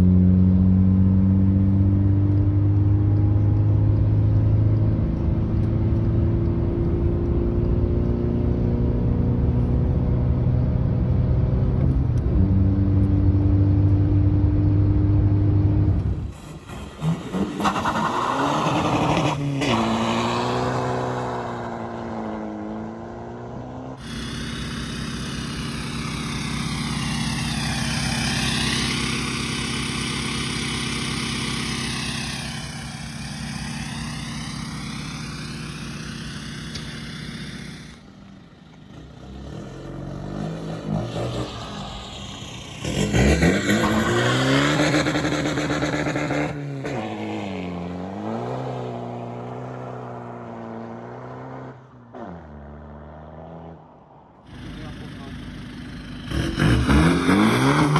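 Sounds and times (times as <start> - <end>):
diesel engine revving: 0.0 - 57.9.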